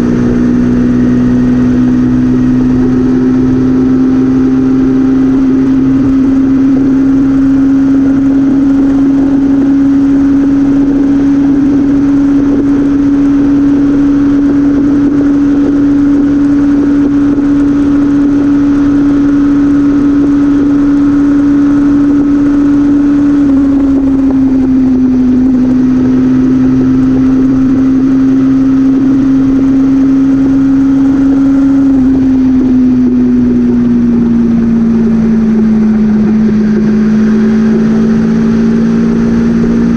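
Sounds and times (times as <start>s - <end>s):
road and wind rumble: 0.0s - 39.9s
vehicle engine drone: 0.0s - 39.9s.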